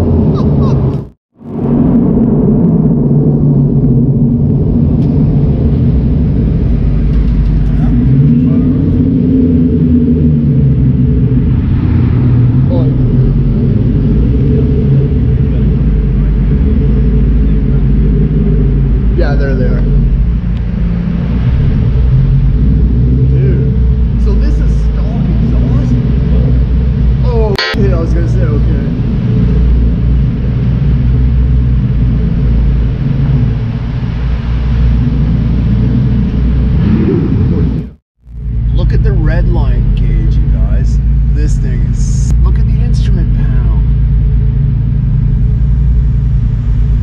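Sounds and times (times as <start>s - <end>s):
deep engine exhaust rumble: 0.0s - 47.0s.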